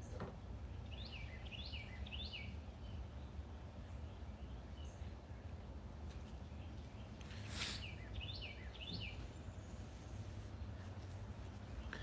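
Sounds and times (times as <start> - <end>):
low steady background rumble: 0.0 - 12.0
songbirds chirping: 0.0 - 12.0.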